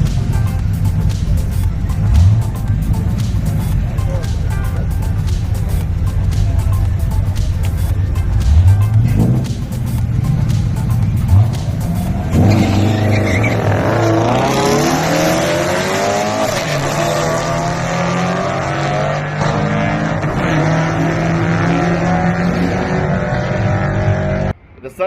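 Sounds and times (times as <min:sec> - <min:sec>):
engine running: 0:00.0 - 0:24.6.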